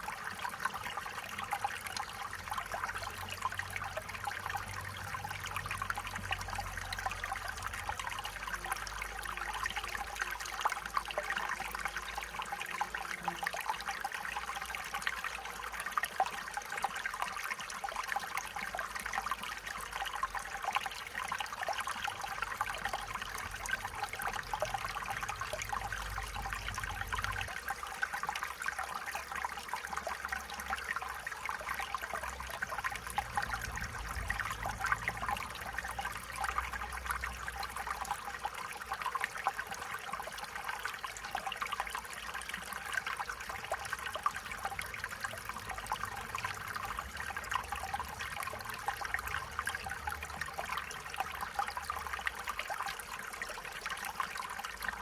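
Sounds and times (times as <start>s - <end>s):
stream water babbling over stones: 0.0s - 55.0s.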